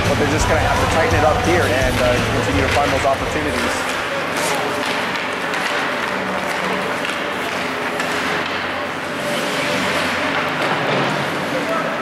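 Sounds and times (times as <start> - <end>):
ice rink hockey ambience: 0.0 - 12.0.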